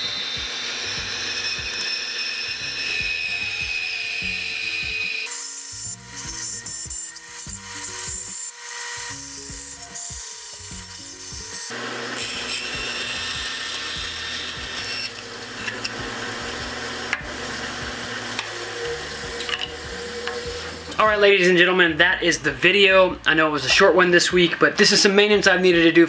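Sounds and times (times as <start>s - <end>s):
bandsaw cutting wood: 0.0s - 21.8s
background music: 0.0s - 26.0s.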